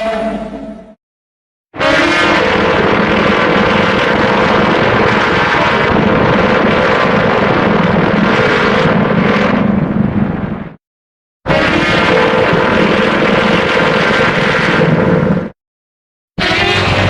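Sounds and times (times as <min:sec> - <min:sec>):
loud rushing drone: 0:01.8 - 0:10.8, 0:11.5 - 0:15.6, 0:16.4 - 0:17.0.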